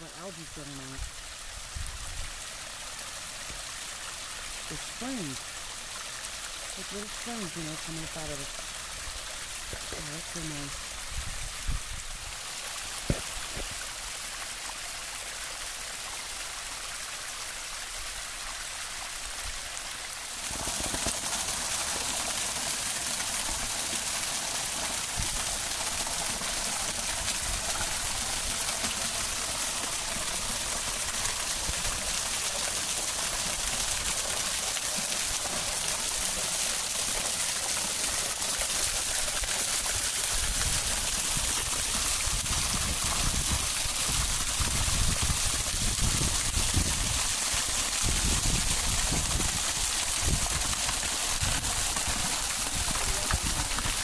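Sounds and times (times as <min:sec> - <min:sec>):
water splashing onto rocks: 0:03.4 - 0:54.0.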